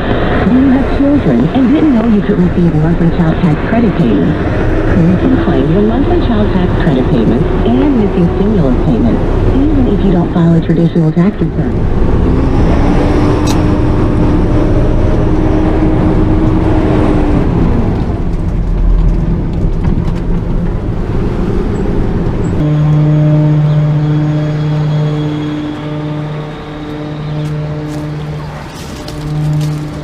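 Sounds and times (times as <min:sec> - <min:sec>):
garbage truck engine humming: 0:00.0 - 0:30.0.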